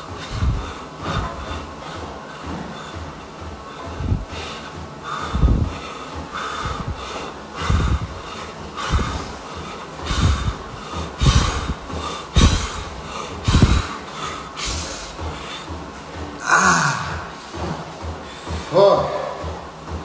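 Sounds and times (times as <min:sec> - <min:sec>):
man breathing hard: 0:00.0 - 0:19.6.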